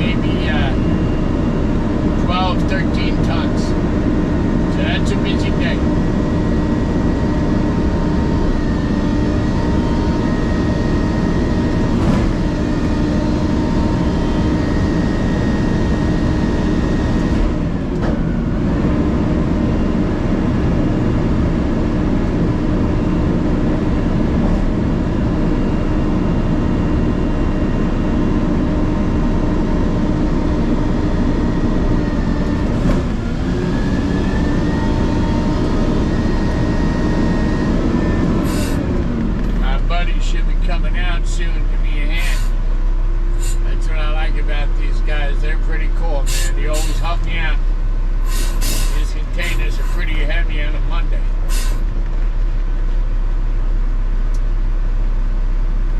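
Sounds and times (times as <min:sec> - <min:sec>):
garbage truck engine rumbling: 0:00.0 - 0:55.9.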